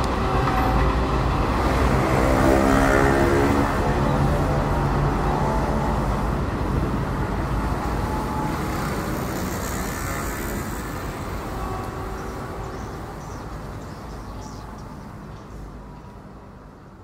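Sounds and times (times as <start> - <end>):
train wheels rumbling on rails: 0.0 - 16.6.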